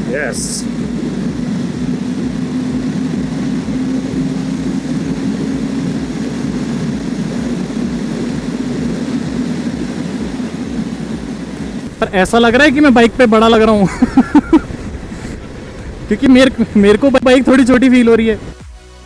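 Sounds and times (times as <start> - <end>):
motorcycle engine droning: 0.0 - 18.6
wind buffeting microphone: 0.0 - 18.6.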